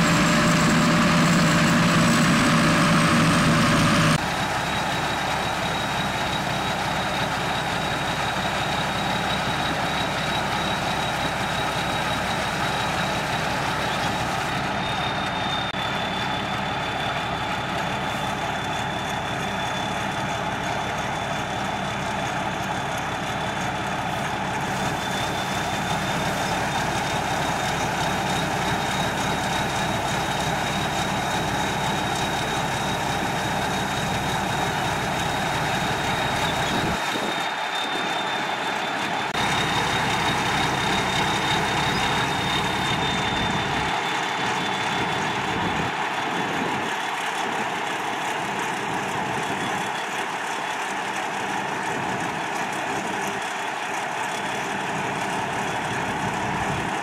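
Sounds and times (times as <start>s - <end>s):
combine harvester running: 0.0s - 57.0s
high machinery whine: 0.0s - 57.0s.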